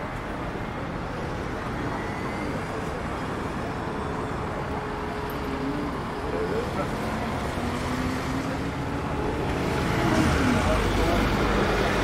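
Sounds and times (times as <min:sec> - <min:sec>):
road traffic running past: 0:00.0 - 0:12.0.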